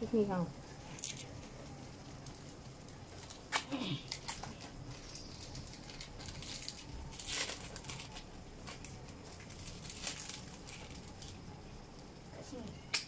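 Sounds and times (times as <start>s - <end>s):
plastic wrapper crinkling: 0.9s - 11.4s.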